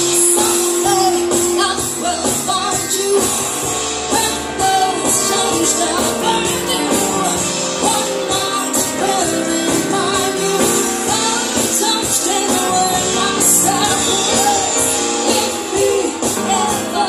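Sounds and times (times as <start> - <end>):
live band playing pop song: 0.0 - 17.0
woman singing into microphone: 0.0 - 17.0.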